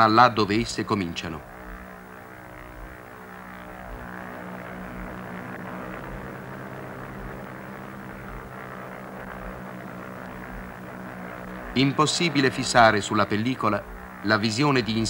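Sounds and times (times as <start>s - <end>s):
propeller airplane engines droning: 0.0s - 15.0s.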